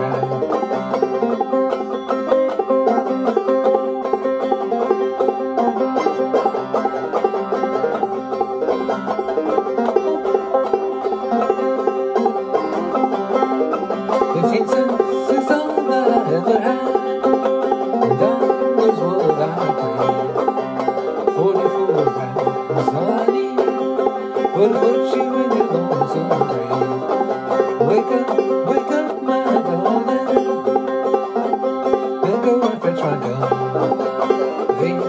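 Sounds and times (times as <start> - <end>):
banjo playing old-time tune: 0.0 - 35.0.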